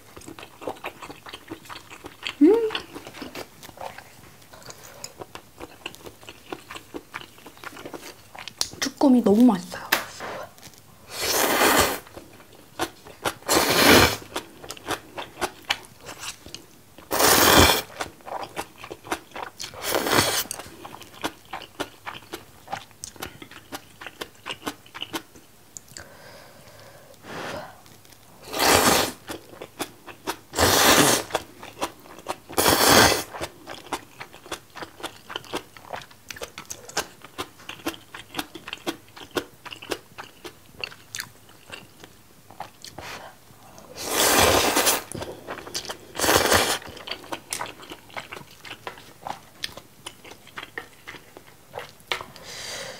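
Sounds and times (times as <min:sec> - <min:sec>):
wet chewing: 0:00.1 - 0:08.9, 0:11.9 - 0:26.1, 0:29.1 - 0:43.1, 0:44.1 - 0:52.4.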